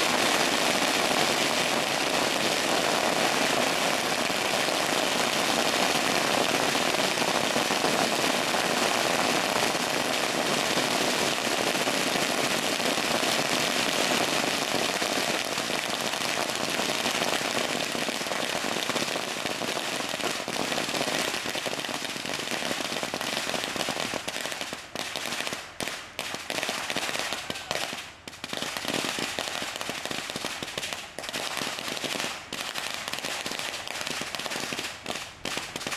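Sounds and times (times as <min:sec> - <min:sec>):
firecrackers crackling: 0:00.0 - 0:35.9.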